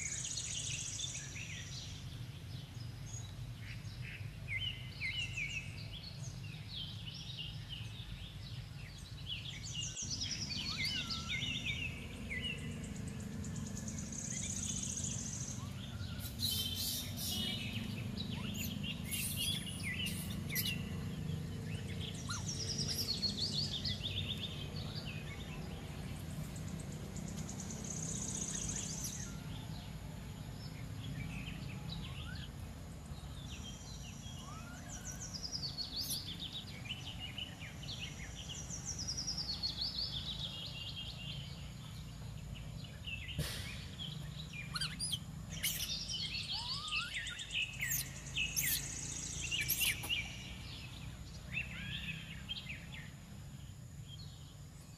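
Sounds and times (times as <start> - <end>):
birds chirping: 0.0 - 54.9
low outdoor rumble: 0.0 - 54.9.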